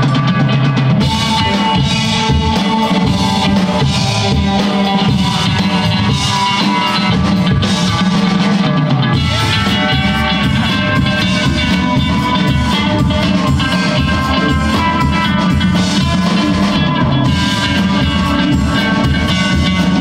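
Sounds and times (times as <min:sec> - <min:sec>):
live funk band playing: 0:00.0 - 0:20.0.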